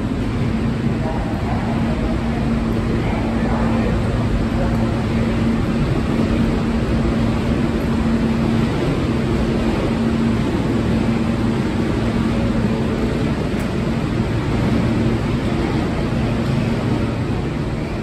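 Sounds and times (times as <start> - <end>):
subway train rumbling in tunnel: 0.0 - 18.0.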